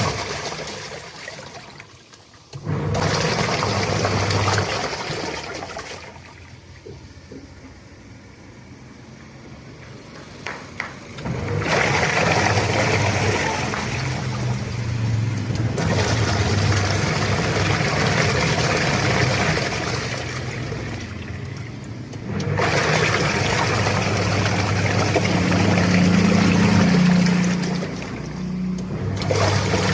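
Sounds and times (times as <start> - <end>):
washing machine motor: 0.0 - 1.4, 2.5 - 9.2, 11.1 - 29.9
water churning in drum: 0.0 - 7.9, 11.1 - 29.9.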